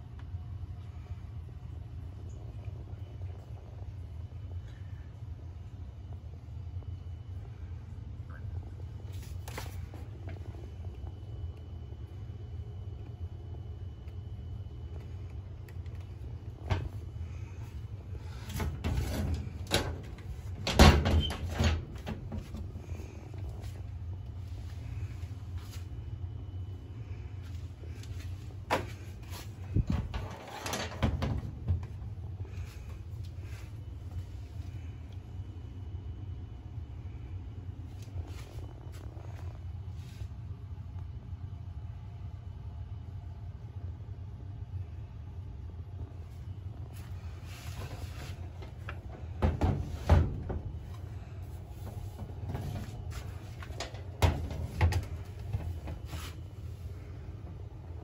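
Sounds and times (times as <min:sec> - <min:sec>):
box fan humming: 0:00.0 - 0:58.0.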